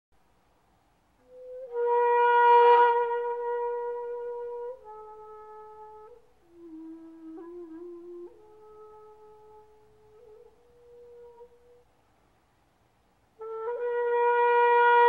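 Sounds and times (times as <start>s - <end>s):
breathy flute melody: 1.2s - 12.0s, 13.4s - 15.0s.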